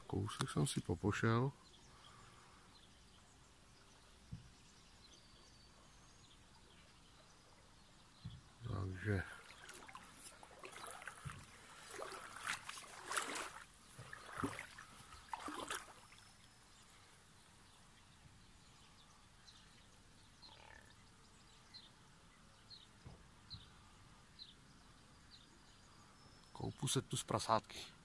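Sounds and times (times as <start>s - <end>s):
faint bird chirps: 0.0s - 13.0s, 13.8s - 28.0s.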